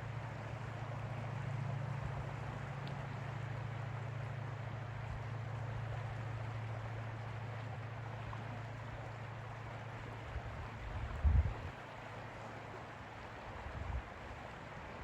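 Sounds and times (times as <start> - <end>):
distant motorboat engine droning: 0.0 - 15.0.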